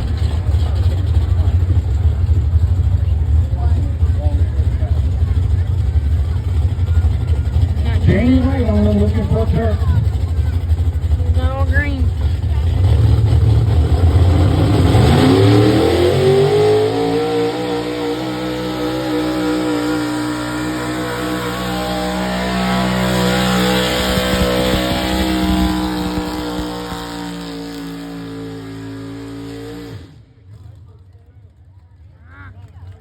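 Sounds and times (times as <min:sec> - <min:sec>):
truck engine revving: 0:00.0 - 0:30.8.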